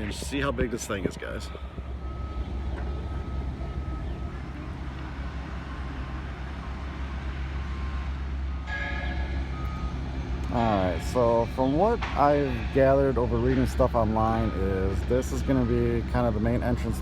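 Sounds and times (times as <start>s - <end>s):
faint reversing alarm beeping: 0.0s - 17.0s
heavy machinery rumbling: 0.0s - 17.0s
loud backup alarm beeping: 1.4s - 17.0s.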